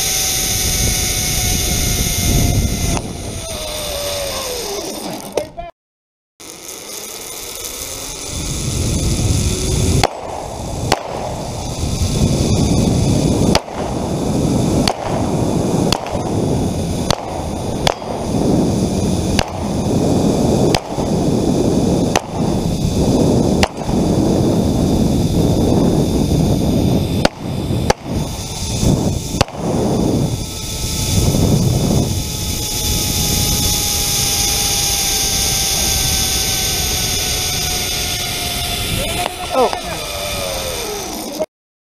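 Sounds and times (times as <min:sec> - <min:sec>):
zip line rushing noise: 0:00.0 - 0:05.4, 0:06.4 - 0:41.5.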